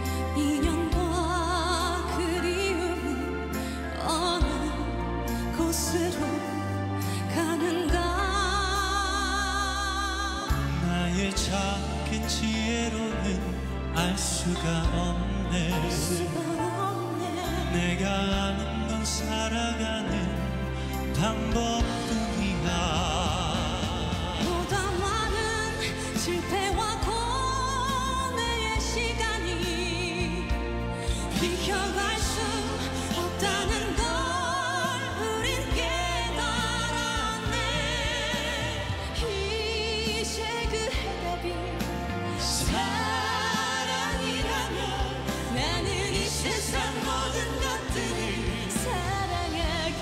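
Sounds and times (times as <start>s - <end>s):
band accompaniment: 0.0s - 50.0s
instrumental backing music: 0.0s - 50.0s
woman singing a slow ballad: 0.0s - 50.0s.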